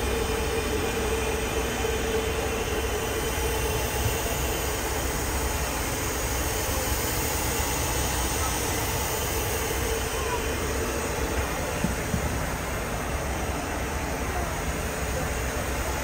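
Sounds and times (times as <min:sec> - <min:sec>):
airliner cabin rumble and rushing air: 0:00.0 - 0:16.0.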